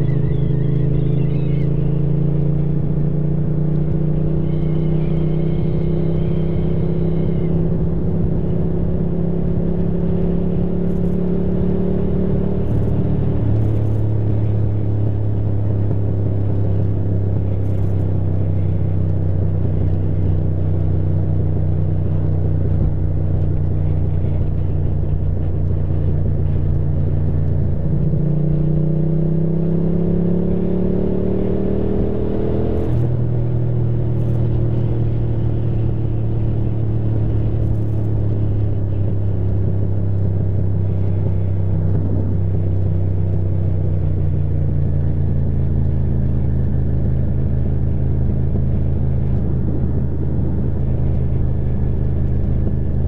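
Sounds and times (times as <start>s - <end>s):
motorcycle engine running: 0.0s - 53.0s
wind and road rumble: 0.0s - 53.0s.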